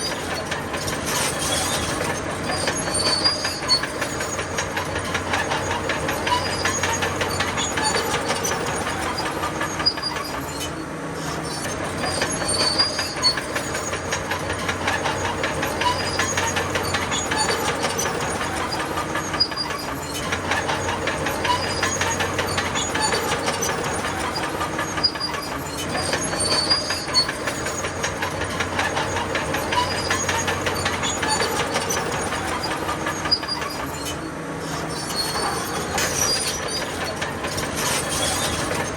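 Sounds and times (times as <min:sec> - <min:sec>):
bulldozer diesel engine running: 0:00.0 - 0:38.9
high squeals from tracks: 0:00.0 - 0:38.9
steel tracks clattering: 0:00.0 - 0:38.9.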